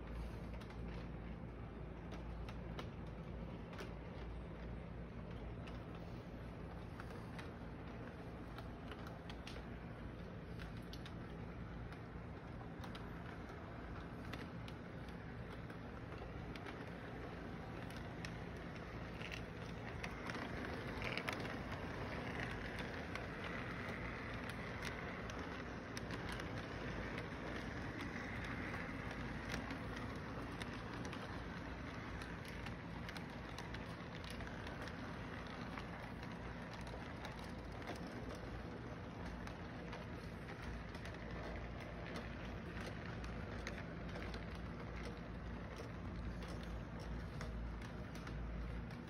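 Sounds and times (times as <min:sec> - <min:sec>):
model train wheels rumbling: 0:00.0 - 0:49.0
small clicks: 0:00.1 - 0:49.0.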